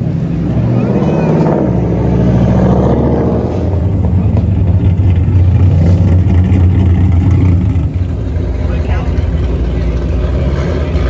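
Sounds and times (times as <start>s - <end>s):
car exhaust rumbling: 0.0s - 11.0s.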